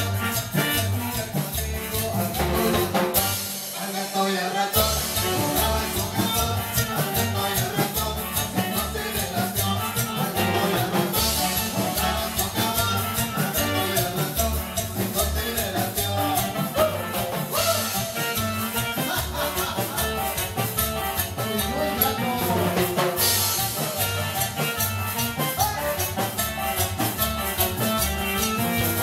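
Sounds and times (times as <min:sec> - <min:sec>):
throbbing bass line: 0:00.0 - 0:03.6, 0:04.8 - 0:29.0
accordion melody: 0:00.0 - 0:29.0
drums: 0:00.0 - 0:29.0
percussion strikes: 0:00.0 - 0:29.0.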